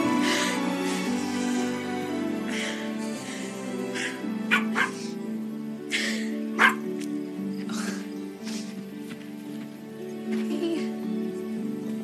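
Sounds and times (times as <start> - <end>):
soft orchestral music: 0.0 - 12.0.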